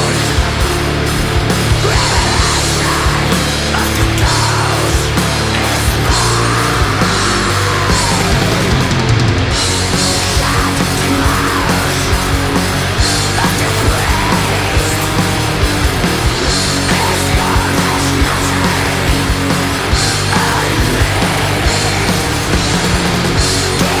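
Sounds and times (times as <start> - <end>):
black metal music: 0.0 - 24.0.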